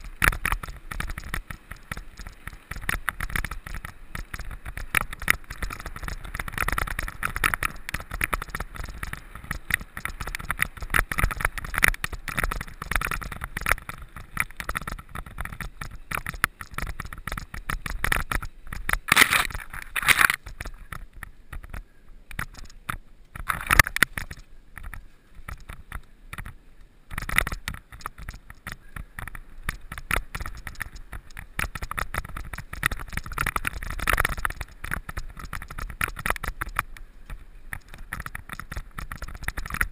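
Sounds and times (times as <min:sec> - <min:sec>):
bike clattering and rattling: 0:00.0 - 0:39.9
bike tyres crunching over gravel: 0:00.0 - 0:39.9.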